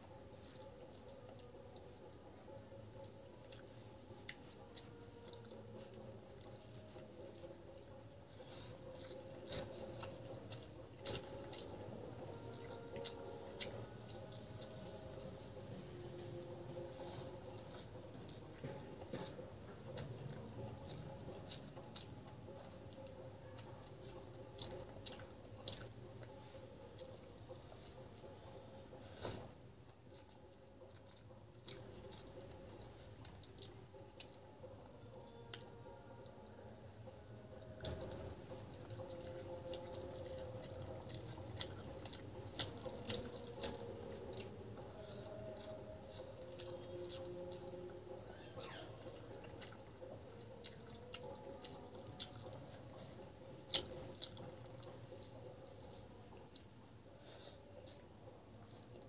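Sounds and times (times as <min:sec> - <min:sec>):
food squelching by hand: 0:00.1 - 0:59.0
chewing and lip smacks: 0:00.3 - 0:29.5, 0:30.1 - 0:34.6, 0:35.3 - 0:59.0.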